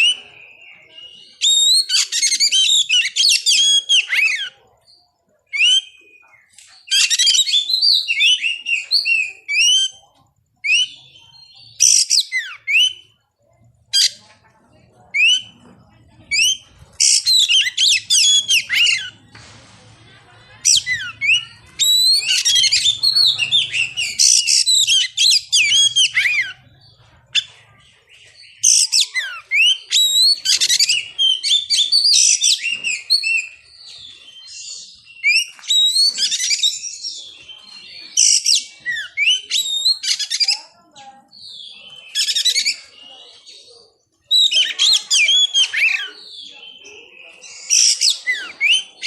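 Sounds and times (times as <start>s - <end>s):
magpie-robin singing: 0.0s - 13.2s, 13.8s - 14.3s, 15.0s - 19.4s, 20.6s - 49.0s.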